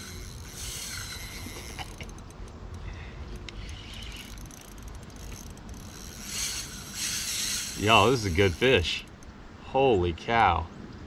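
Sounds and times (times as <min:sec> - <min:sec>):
faint reel clicks: 0:00.0 - 0:09.3
fishing reel whirring: 0:00.0 - 0:09.3.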